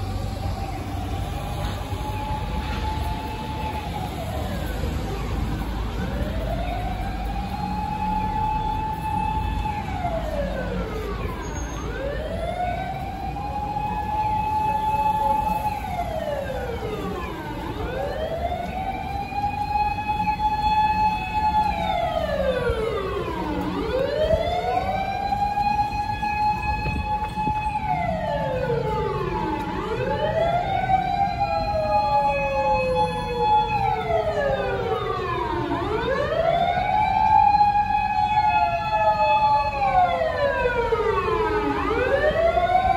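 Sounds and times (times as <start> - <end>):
fire engine sirens wailing: 0.0 - 42.9
low traffic rumble: 0.0 - 42.9.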